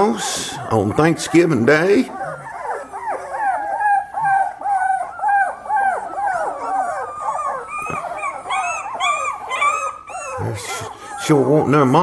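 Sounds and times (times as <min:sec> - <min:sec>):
puppies whining and crying: 0:00.0 - 0:12.0.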